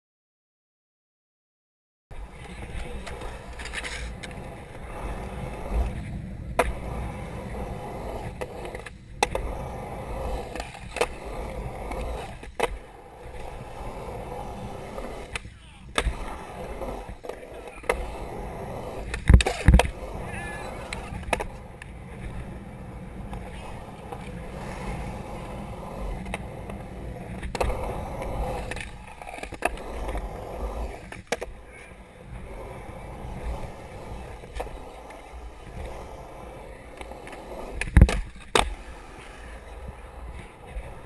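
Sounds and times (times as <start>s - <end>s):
skateboard wheels rolling on concrete: 2.1s - 41.0s
skateboard clacks: 2.2s - 41.0s.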